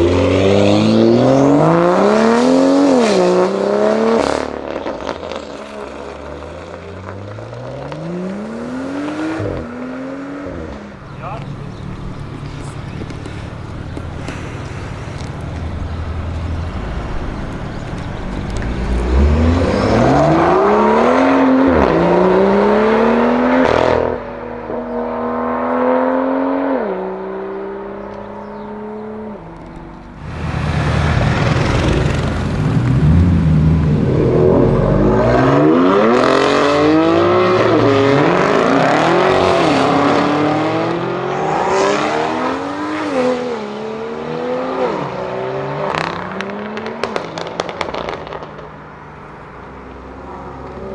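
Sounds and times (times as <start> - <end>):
car engine accelerating hard: 0.0 - 48.5.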